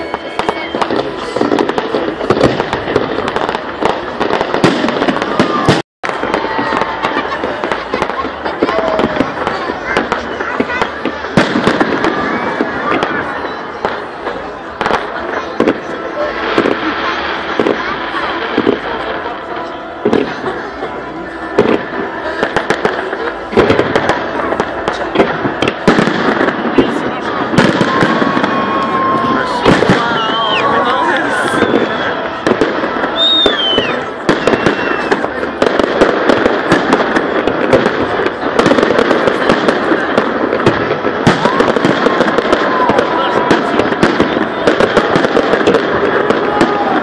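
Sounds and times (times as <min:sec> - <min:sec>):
fireworks crackling: 0:00.0 - 0:47.0
fireworks cracks and bangs: 0:00.0 - 0:47.0.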